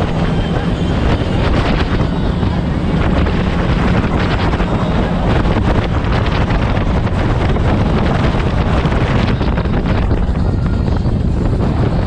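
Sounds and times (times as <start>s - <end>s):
boat engine drone: 0.0s - 12.0s
wind buffeting microphone: 0.0s - 12.0s.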